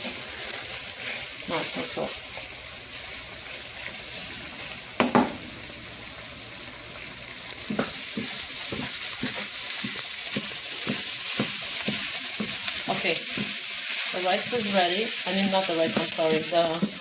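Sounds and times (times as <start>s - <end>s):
meat and onions sizzling in oil: 0.0s - 17.0s
stirring strokes in a pan: 0.0s - 17.0s.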